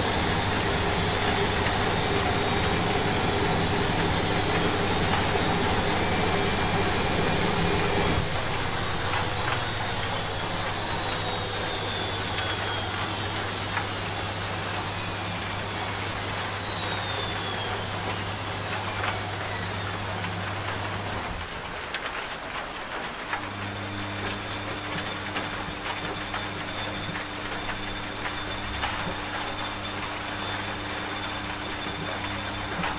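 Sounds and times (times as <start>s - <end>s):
low motor hum: 0.0s - 21.6s, 23.3s - 32.9s
rain hiss: 0.0s - 32.9s
washing machine spin whine: 0.0s - 32.9s.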